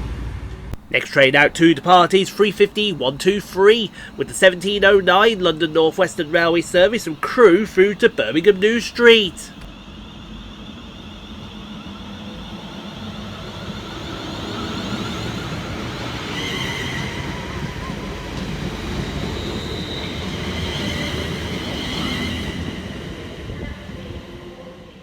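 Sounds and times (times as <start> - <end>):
train rumbling on track: 0.0 - 8.5, 9.6 - 25.0
high electric train whine: 0.0 - 25.0.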